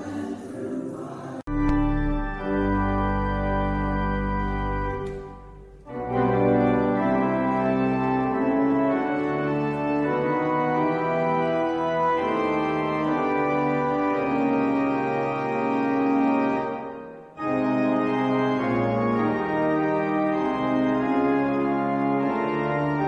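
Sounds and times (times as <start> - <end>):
church organ chords: 1.5 - 23.0.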